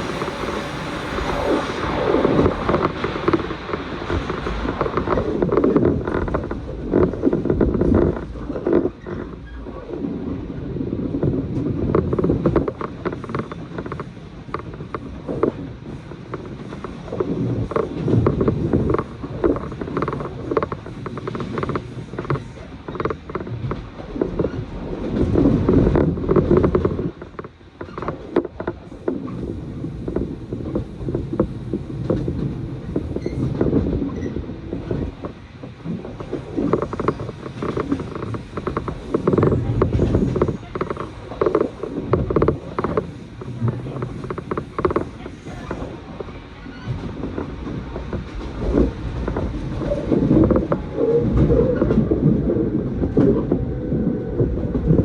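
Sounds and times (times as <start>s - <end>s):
creaks clicks and rattles: 0.0s - 10.2s, 11.1s - 55.0s
train car running rumble: 0.0s - 55.0s.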